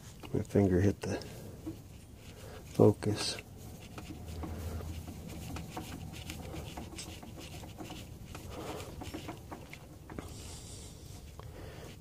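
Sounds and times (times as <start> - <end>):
oil filter ticking and rubbing: 0.0 - 12.0.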